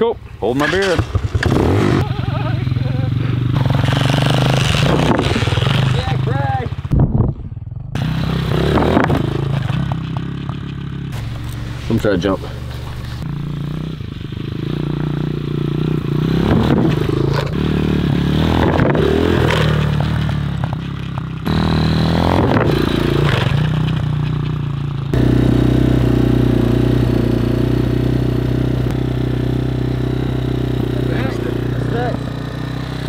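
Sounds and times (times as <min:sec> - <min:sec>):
dirt bike engine revving: 0:00.0 - 0:06.9, 0:07.5 - 0:33.0.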